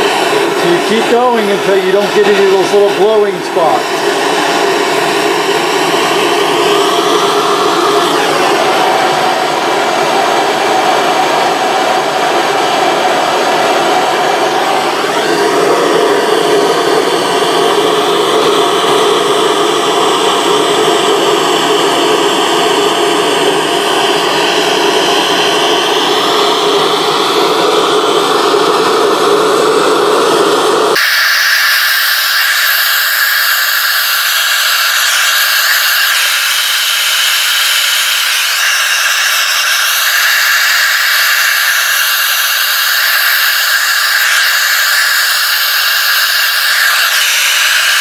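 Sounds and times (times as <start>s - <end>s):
gas torch flame rushing: 0.0s - 48.0s.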